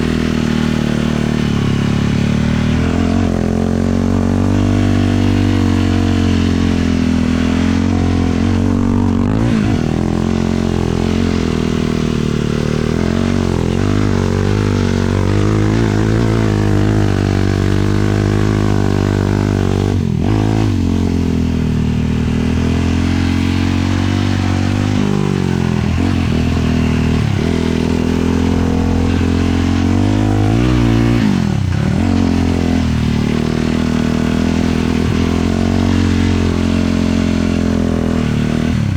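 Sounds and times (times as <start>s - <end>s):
quad engine revving under load: 0.0s - 38.9s.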